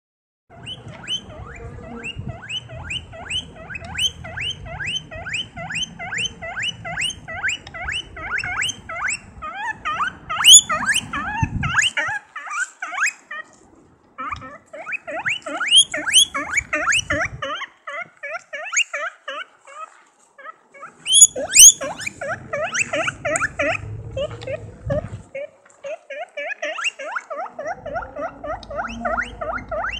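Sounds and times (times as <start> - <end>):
guinea pig squeaking: 0.5 - 13.6, 14.2 - 29.9.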